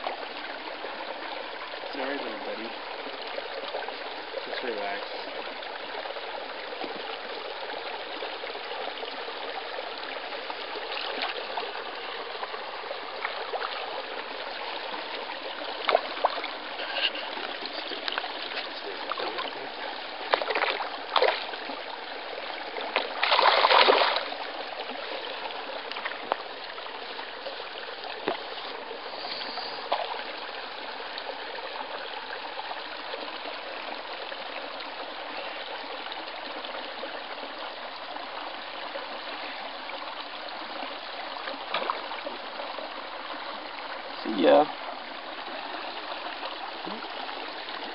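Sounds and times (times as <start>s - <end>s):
shallow stream trickling: 0.0s - 47.9s.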